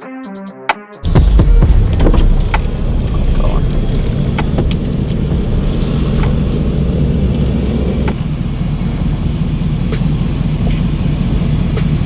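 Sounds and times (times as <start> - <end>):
vehicle engine and road drone: 1.0 - 12.0.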